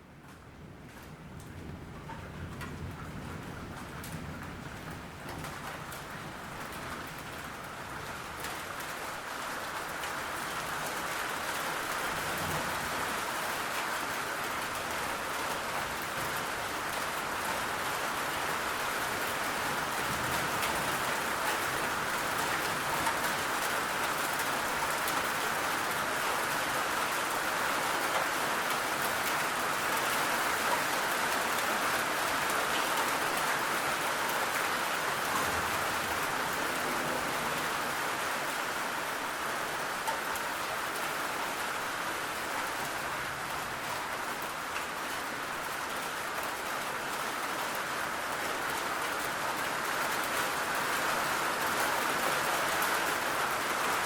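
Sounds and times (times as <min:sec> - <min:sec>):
heavy rain falling: 0:00.1 - 0:54.0.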